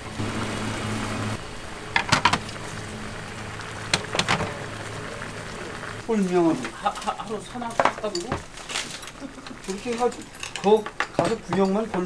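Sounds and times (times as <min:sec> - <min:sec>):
soup boiling on gas burners: 0:00.0 - 0:12.0.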